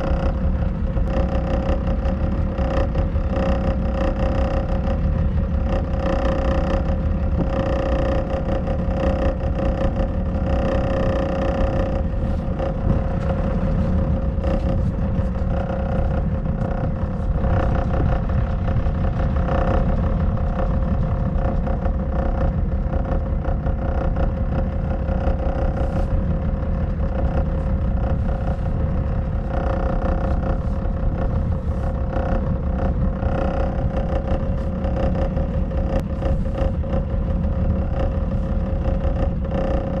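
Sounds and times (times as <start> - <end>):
boat engine running: 0.0 - 40.0.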